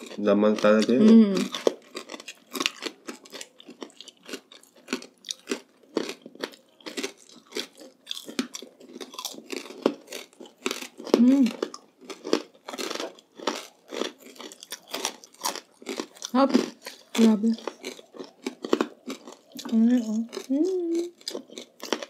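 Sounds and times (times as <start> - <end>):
crunching and chewing crispy food: 0.0 - 22.0.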